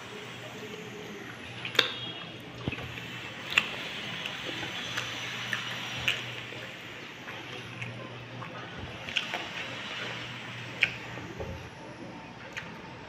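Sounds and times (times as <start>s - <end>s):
chewing with wet smacking: 0.1s - 13.0s.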